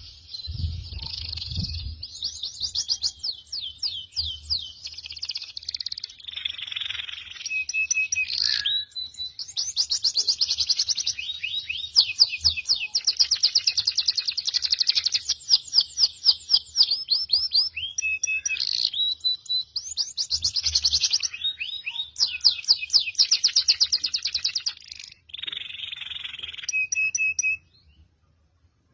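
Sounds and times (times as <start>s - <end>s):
songbird trilling: 0.0s - 27.7s
bird whistled notes: 0.4s - 27.7s.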